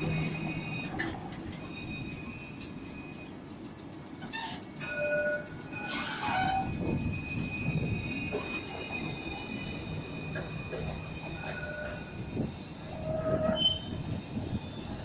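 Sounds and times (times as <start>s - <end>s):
tram rumbling past: 0.0s - 15.0s.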